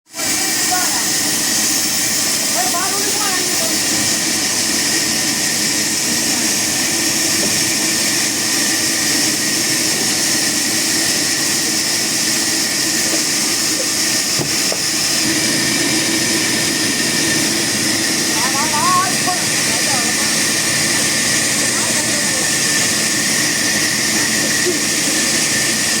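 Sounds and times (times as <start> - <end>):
sawmill machinery running: 0.1 - 26.0.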